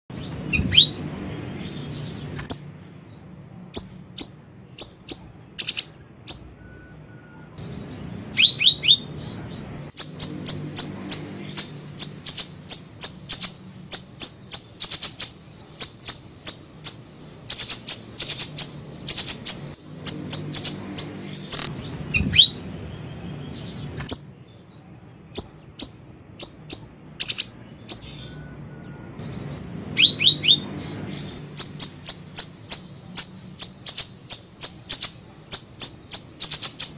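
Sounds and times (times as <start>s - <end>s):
bird chirping: 0.1s - 36.9s
faint low background hum: 0.1s - 36.9s.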